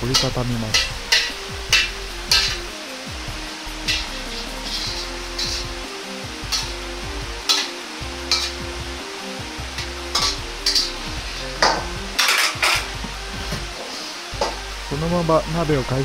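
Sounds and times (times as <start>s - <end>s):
metal turner scraping a wok: 0.0s - 9.0s, 9.6s - 14.6s.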